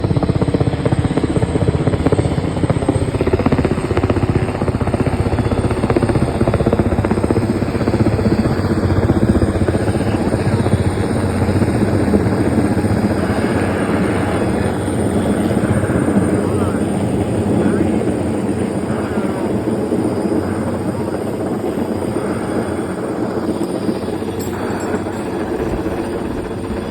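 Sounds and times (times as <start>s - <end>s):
helicopter rotor blade chop: 0.0s - 26.9s.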